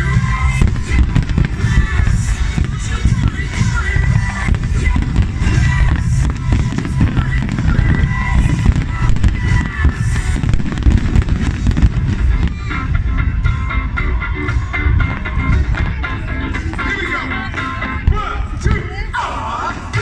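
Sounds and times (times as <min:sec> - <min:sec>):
fireworks bangs and crackles: 0:00.0 - 0:19.0
music playing: 0:00.0 - 0:20.0.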